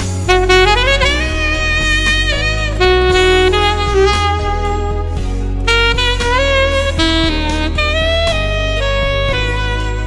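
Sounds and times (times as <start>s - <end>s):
backing track bass line: 0.0s - 10.0s
saxophone playing slow melody: 0.0s - 10.0s.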